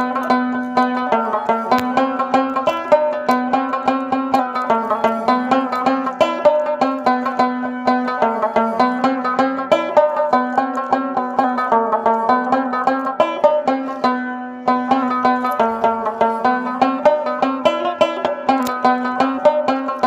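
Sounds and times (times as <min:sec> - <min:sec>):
fast plucked-string melody: 0:00.0 - 0:20.0.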